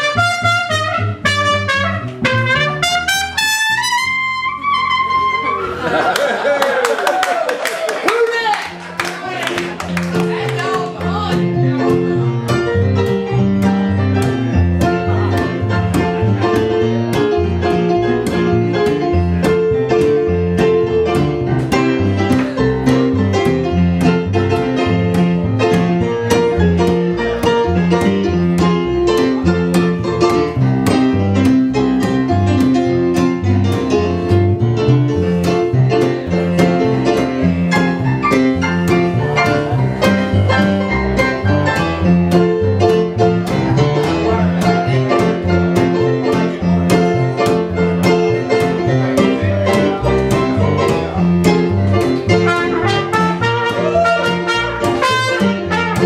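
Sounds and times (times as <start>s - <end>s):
live band playing instrumental: 0.0s - 6.2s, 8.6s - 56.0s.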